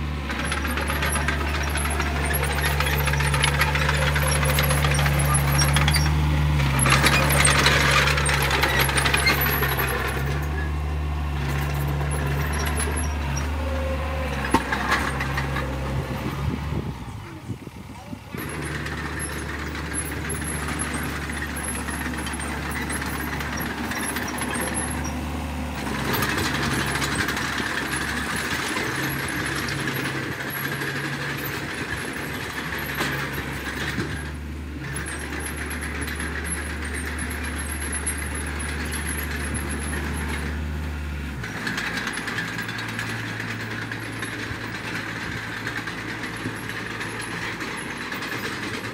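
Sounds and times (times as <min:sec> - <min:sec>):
blade pushing dirt: 0:00.0 - 0:17.0, 0:18.4 - 0:48.9
bulldozer engine running: 0:00.0 - 0:48.9.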